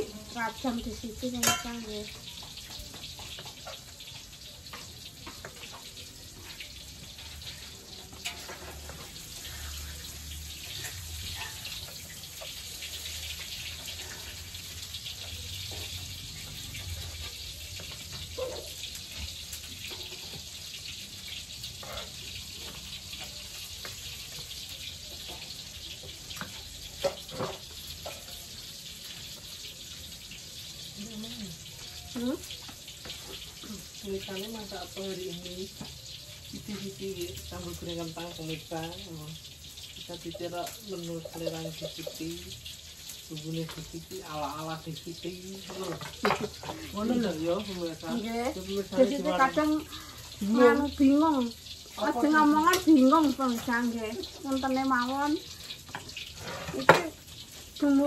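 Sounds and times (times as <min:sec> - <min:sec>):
food frying in oil: 0:00.0 - 0:58.0.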